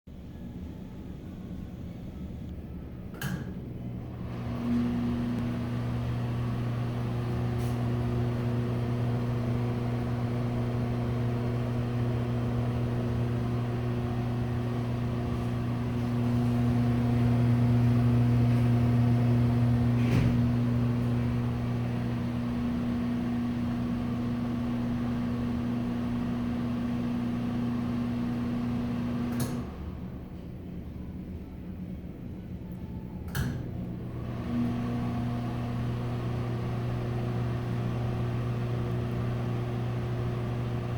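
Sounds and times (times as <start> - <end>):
exhaust fan humming: 0.1 - 40.9.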